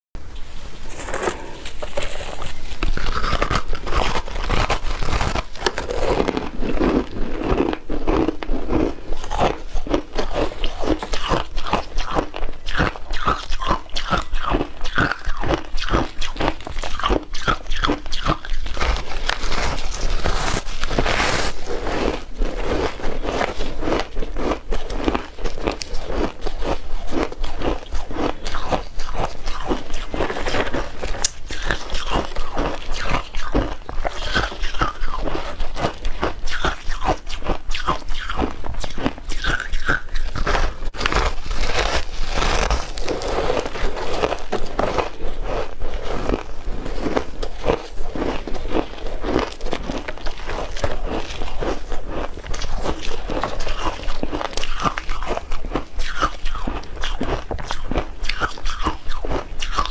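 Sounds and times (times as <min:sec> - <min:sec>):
ice crunching between teeth: 0:00.9 - 0:59.9.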